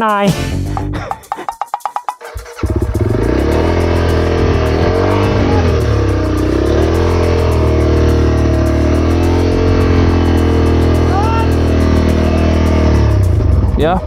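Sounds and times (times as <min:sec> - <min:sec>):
dirt bike engine revving: 0:02.3 - 0:14.0.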